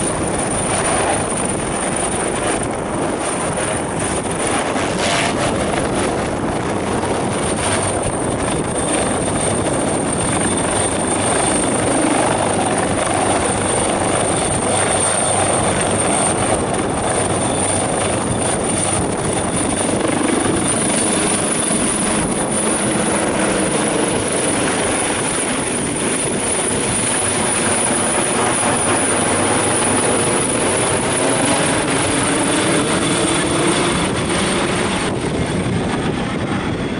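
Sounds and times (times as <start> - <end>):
helicopter taking off: 0.0 - 36.9.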